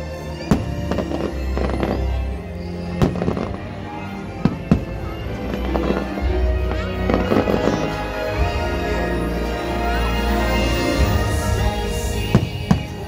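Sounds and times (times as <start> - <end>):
music: 0.0 - 13.0
fireworks crackling: 0.4 - 9.0, 10.3 - 13.0.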